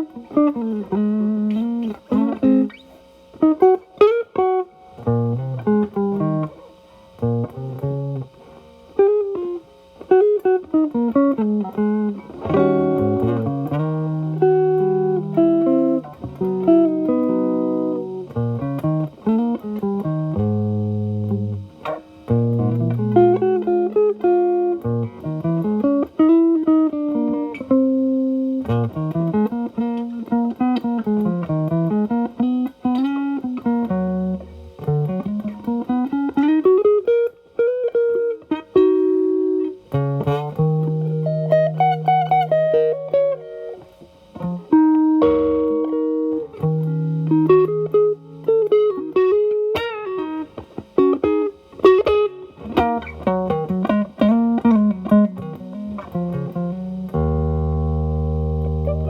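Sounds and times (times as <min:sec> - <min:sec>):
electric guitar lead lines: 0:00.0 - 0:59.0.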